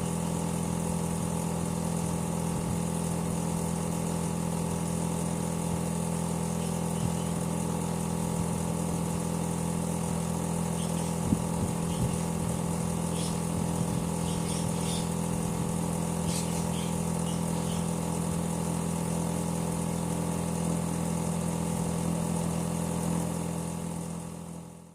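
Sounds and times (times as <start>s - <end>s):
air conditioner compressor drone: 0.0s - 24.9s.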